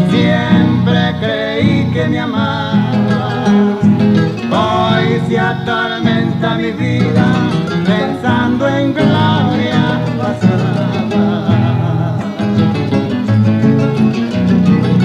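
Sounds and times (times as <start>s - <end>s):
acoustic guitar folk music: 0.0s - 15.0s.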